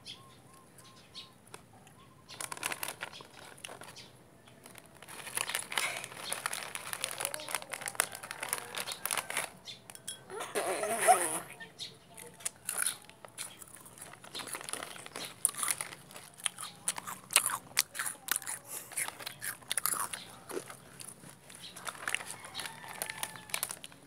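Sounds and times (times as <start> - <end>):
crunchy food being chewed: 1.5 - 10.1, 12.1 - 24.0.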